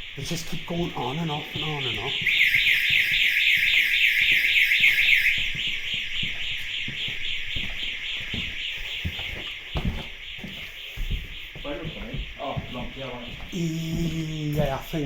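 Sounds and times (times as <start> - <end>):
intruder alarm electronic warble: 0.0 - 15.0.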